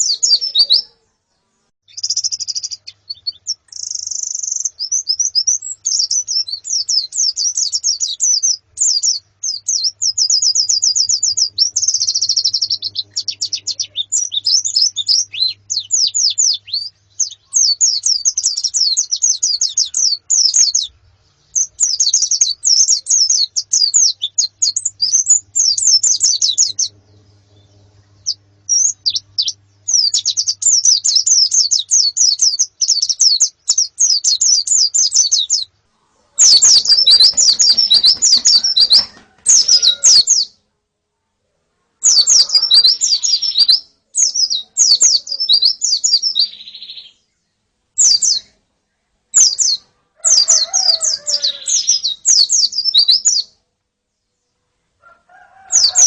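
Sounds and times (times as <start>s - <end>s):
birds chirping: 0.0s - 40.6s, 42.0s - 56.0s.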